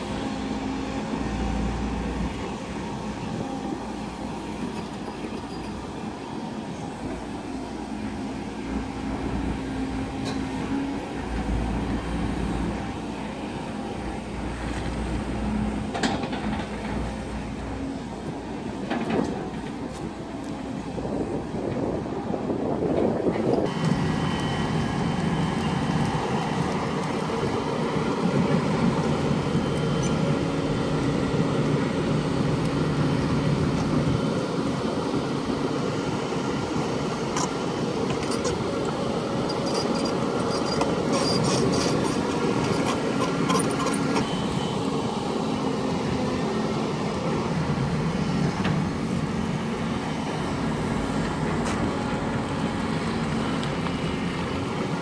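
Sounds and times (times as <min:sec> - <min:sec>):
excavator digging mud: 0:00.0 - 0:22.3, 0:23.0 - 0:55.0
excavator diesel engine running: 0:00.0 - 0:55.0.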